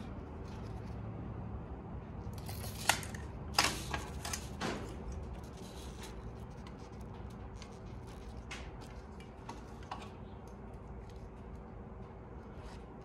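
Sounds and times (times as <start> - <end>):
low shop hum: 0.0 - 13.0.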